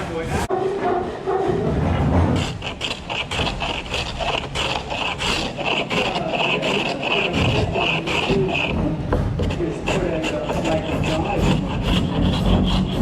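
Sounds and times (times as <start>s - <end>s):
hand tool scraping wood: 0.5s - 13.0s.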